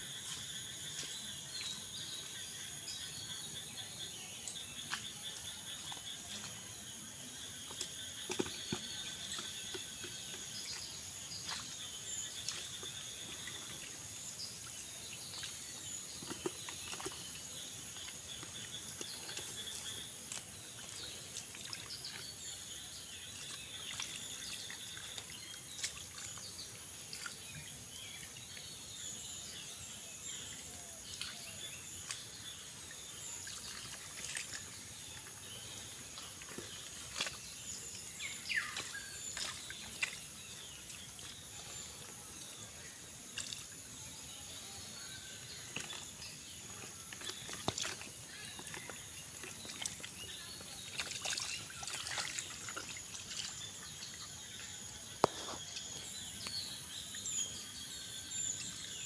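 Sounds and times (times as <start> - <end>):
insects chirring: 0.0 - 59.0
small water splashes: 4.5 - 29.6, 30.4 - 59.0.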